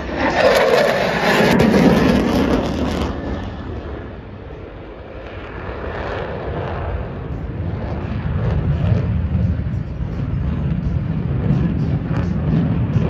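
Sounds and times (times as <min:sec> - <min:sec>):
jet engine roaring: 0:00.0 - 0:13.0.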